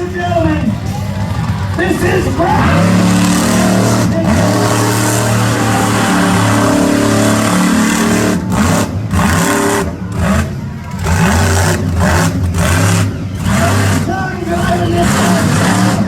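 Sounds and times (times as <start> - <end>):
monster truck engine running: 0.0 - 16.0.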